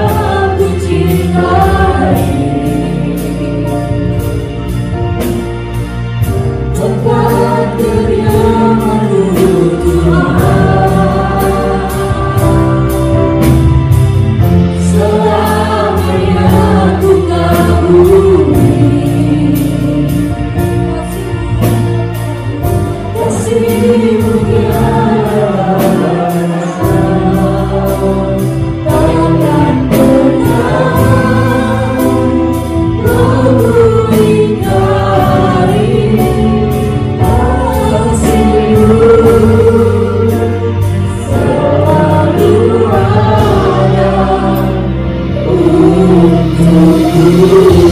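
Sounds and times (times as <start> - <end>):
bass: 0.0 - 47.9
drum kit with hi-hat beat: 0.0 - 47.9
keyboard: 0.0 - 47.9
backing singers: 6.7 - 47.9.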